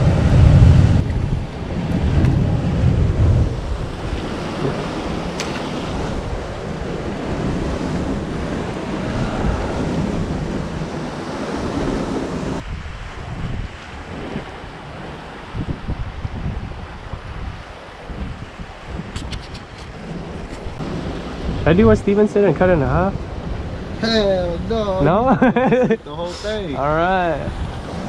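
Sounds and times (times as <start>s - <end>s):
surf washing against rocks: 0.0s - 28.0s
wind buffeting microphone: 0.0s - 28.0s.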